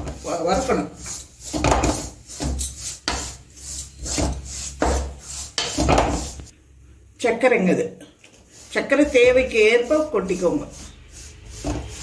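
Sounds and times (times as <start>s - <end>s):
wooden spatula scraping a pan: 0.0s - 6.5s, 8.3s - 12.0s.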